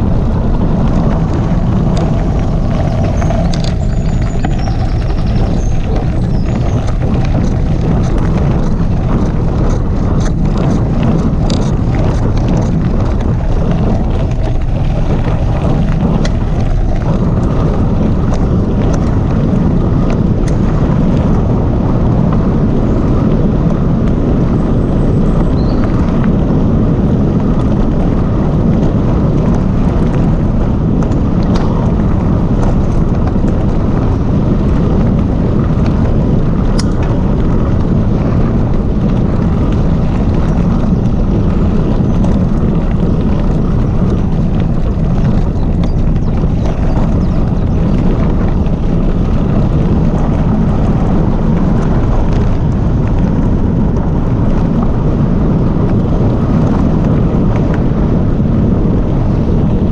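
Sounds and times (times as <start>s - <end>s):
bike and stones rattling: 0.0s - 59.9s
bike tyres rolling on gravel: 0.0s - 59.9s
wind buffeting microphone: 0.0s - 59.9s.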